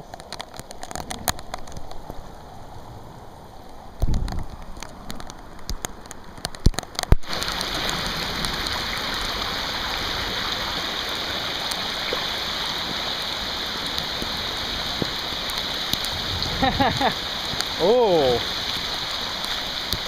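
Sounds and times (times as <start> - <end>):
raindrops ticking: 0.0 - 2.4, 3.6 - 20.0
heavy rain hiss: 0.1 - 20.0.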